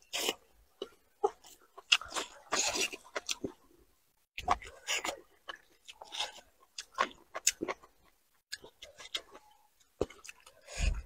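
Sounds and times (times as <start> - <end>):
chewing food: 0.0 - 3.8, 4.4 - 11.0.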